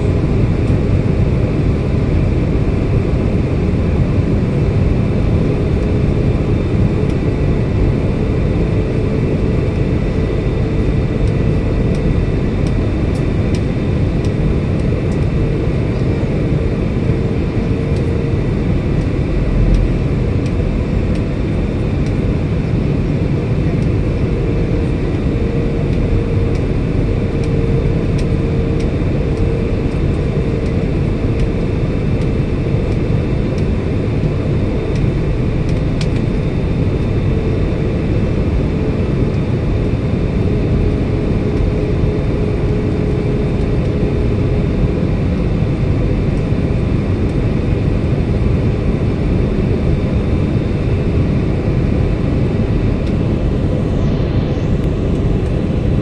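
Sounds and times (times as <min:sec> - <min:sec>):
airliner engines and airflow rushing: 0:00.0 - 0:56.0.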